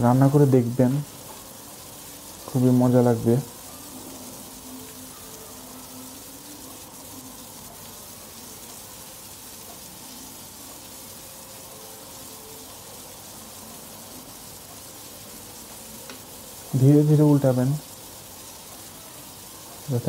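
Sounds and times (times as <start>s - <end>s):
prawns sizzling in oil: 0.0s - 20.0s.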